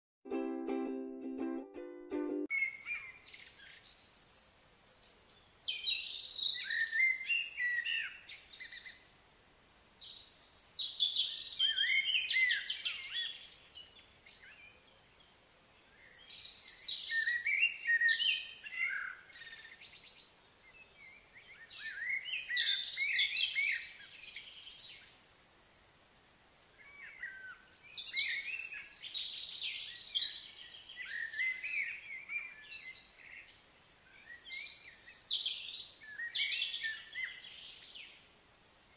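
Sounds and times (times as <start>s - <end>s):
songbird chirping: 0.3s - 38.9s.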